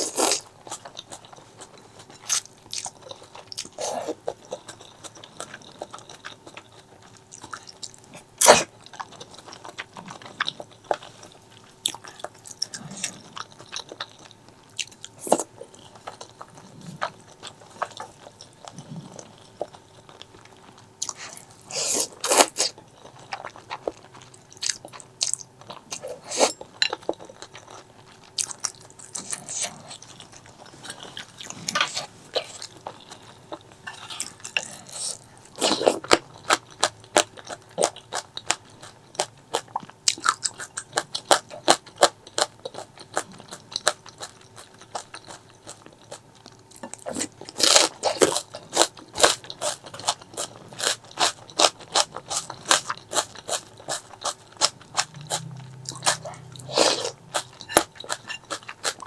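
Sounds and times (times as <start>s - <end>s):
faint steady hum: 0.0s - 59.0s
food crunch: 0.0s - 59.0s
wet chewing and biting: 0.0s - 59.0s.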